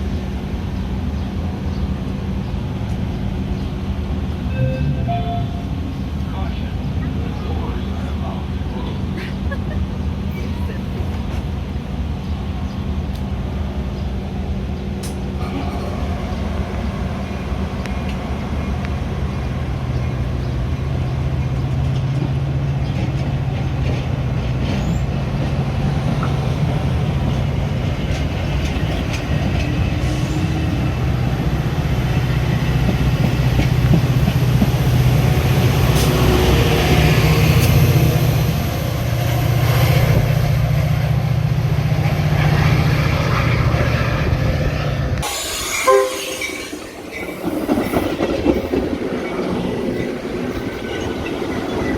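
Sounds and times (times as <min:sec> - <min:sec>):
train running: 0:00.0 - 0:51.9.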